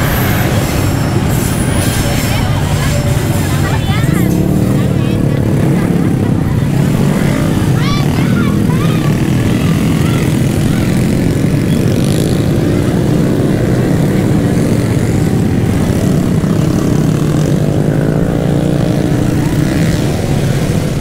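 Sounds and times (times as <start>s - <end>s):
loud engine running: 0.0s - 21.0s.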